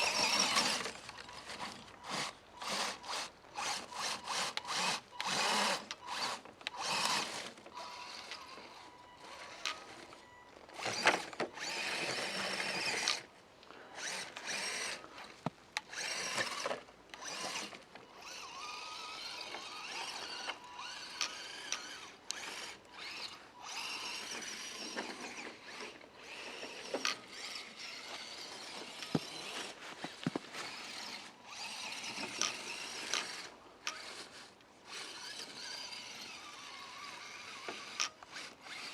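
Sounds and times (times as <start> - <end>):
electric motor and gears whining: 0.0 - 38.9.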